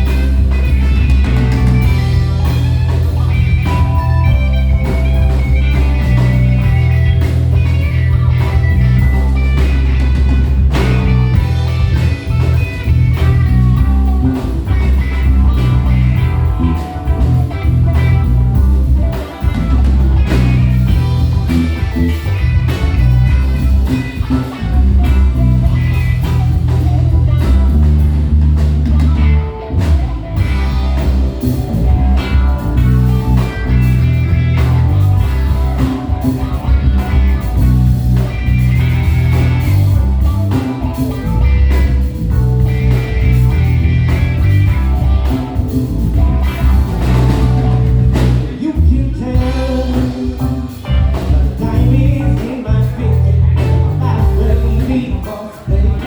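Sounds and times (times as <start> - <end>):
live band playing blues: 0.0 - 56.0.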